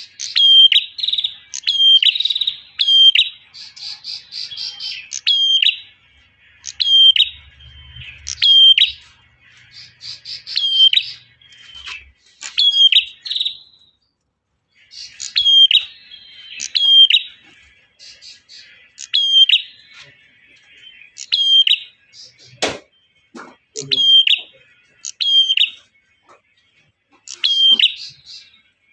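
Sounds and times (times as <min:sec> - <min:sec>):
bird chirping call: 0:00.0 - 0:28.9.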